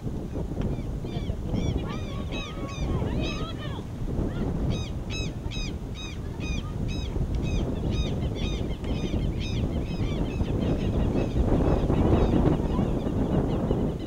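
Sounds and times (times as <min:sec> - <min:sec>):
bird calling: 0:00.7 - 0:03.8, 0:04.6 - 0:14.0.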